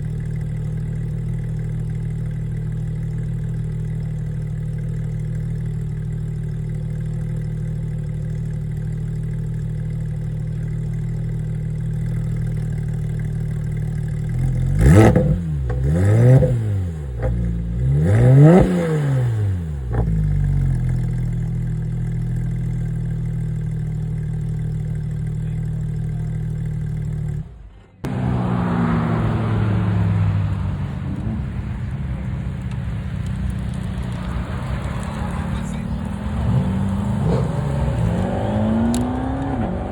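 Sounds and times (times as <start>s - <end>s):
car engine idling and revving: 0.0s - 39.9s
engine with falling pitch: 0.0s - 39.9s.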